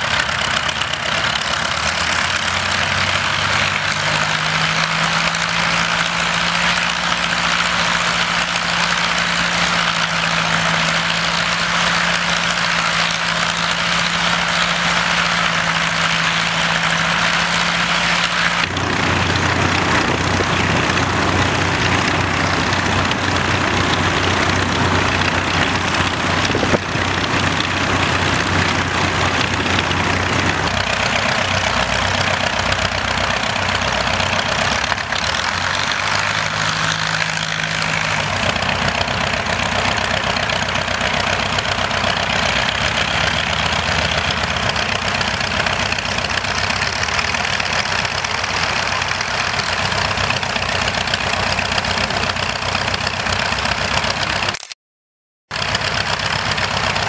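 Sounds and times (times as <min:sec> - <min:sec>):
biplane engines idling: 0:00.0 - 0:54.6, 0:55.5 - 0:57.0.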